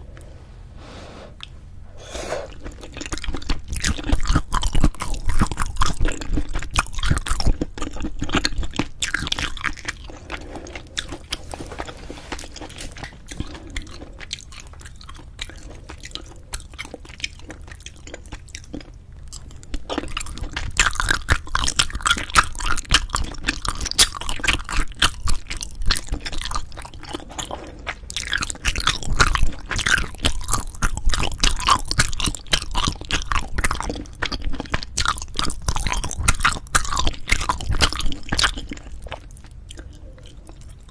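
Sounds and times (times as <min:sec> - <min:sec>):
close chewing and mouth sounds: 0:01.4 - 0:40.9.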